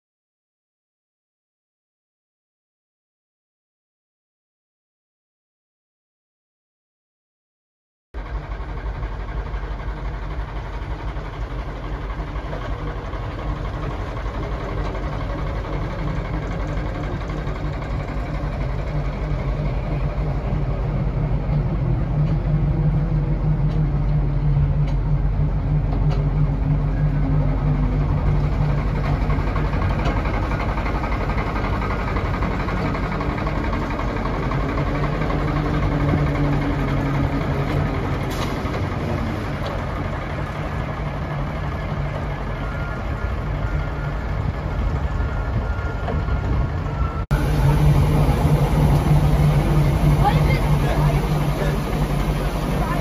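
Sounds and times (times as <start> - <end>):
diesel locomotive engine idling: 8.2 - 53.0.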